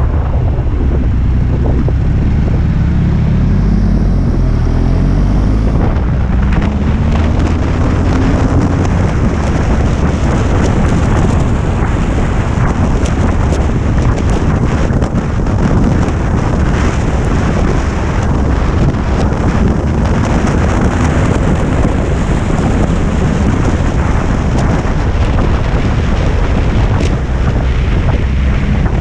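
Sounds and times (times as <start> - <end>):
motorcycle engine accelerating: 0.0 - 29.0
wind buffeting microphone: 0.0 - 29.0.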